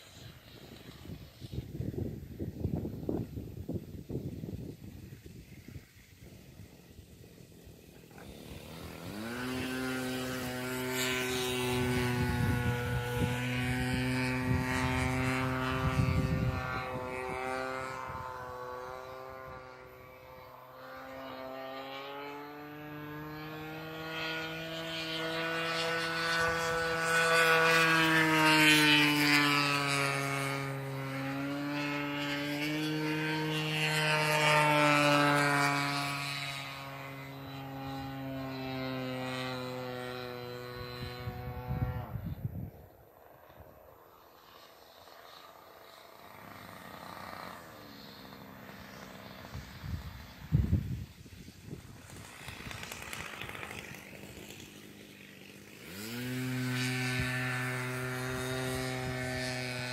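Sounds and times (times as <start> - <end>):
model airplane engine droning: 0.0 - 59.9.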